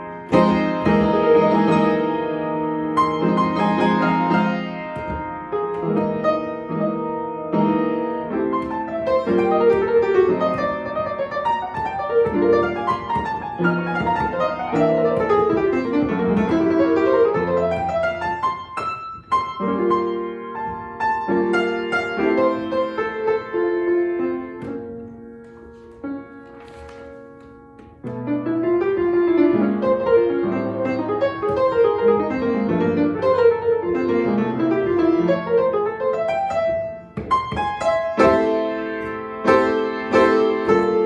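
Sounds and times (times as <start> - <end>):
piano playing: 0.0 - 41.0.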